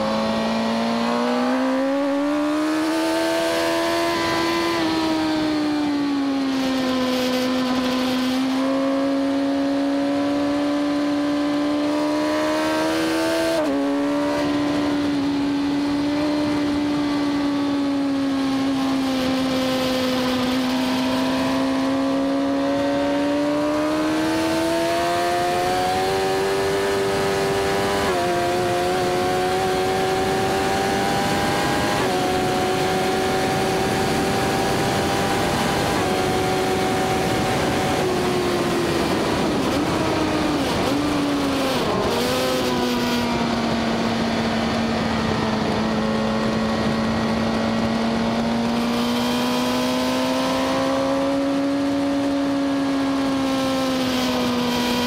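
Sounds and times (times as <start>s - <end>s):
motorcycle engine revving high: 0.0s - 55.0s
wind rushing over camera: 0.0s - 55.0s.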